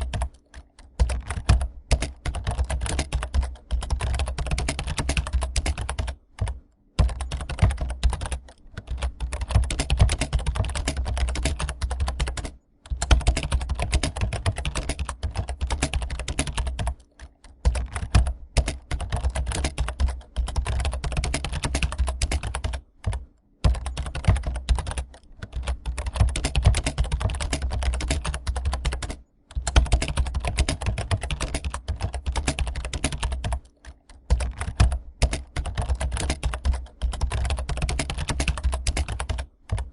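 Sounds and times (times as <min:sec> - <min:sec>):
rapid keyboard typing: 0:00.0 - 0:39.9.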